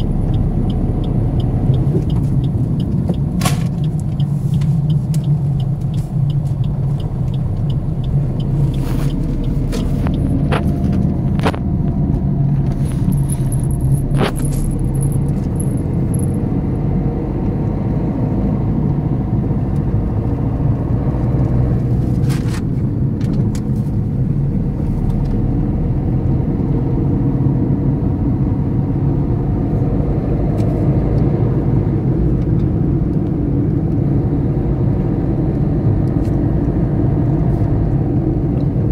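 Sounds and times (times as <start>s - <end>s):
car cabin rumble: 0.0s - 38.9s.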